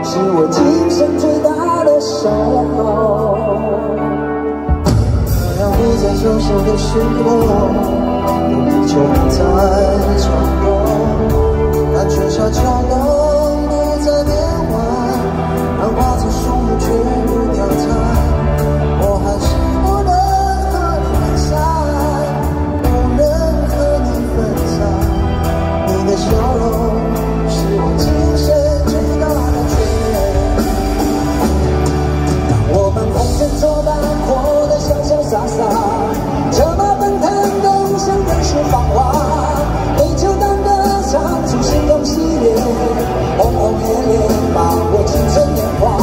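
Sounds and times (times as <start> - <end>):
pop-rock band playing a ballad: 0.0 - 46.0.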